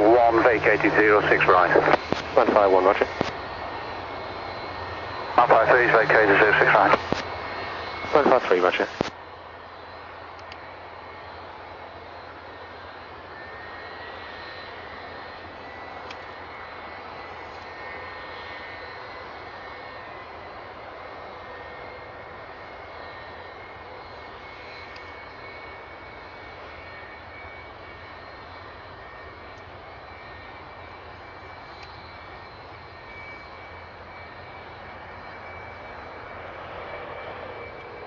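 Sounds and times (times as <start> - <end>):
jet engine running: 0.0 - 38.0.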